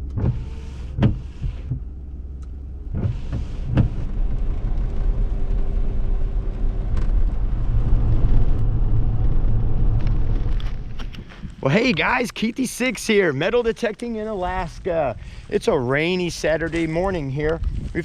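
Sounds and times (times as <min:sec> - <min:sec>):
low vehicle rumble: 0:00.0 - 0:18.0.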